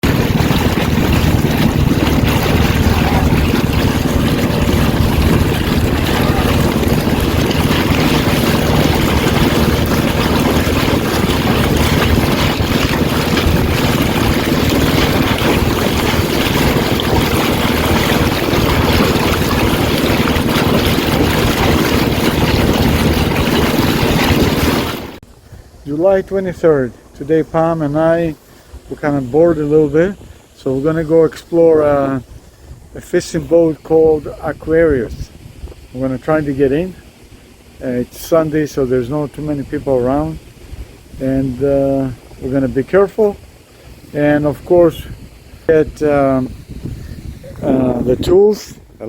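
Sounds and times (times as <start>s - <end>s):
low steady hum: 0.0s - 49.0s
rush of wind and water: 0.0s - 49.0s
wind buffeting microphone: 0.0s - 49.0s.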